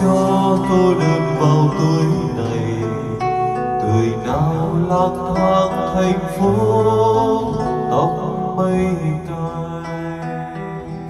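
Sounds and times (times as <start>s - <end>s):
acoustic guitar backing track: 0.0s - 11.0s
man singing karaoke: 0.0s - 11.0s.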